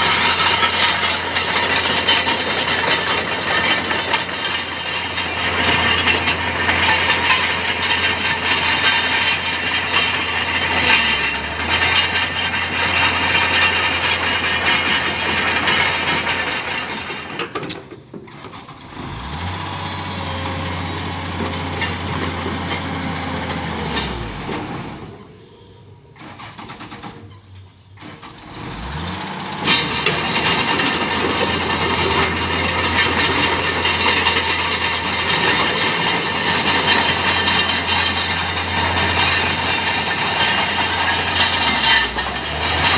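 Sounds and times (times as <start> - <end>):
engine clatter and hiss: 0.0 - 42.9
excavator diesel engine: 0.0 - 42.9.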